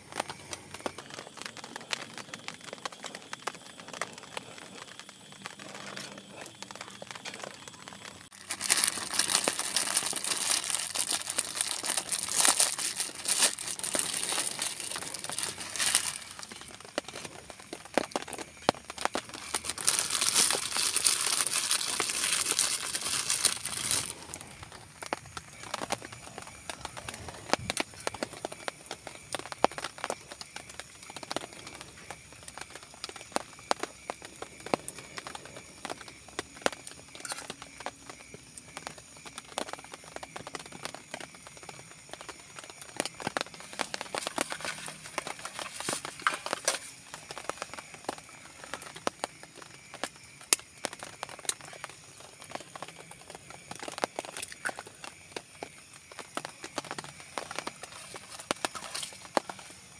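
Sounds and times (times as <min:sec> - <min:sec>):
raindrops pattering on a tarp: 0:00.0 - 0:59.9.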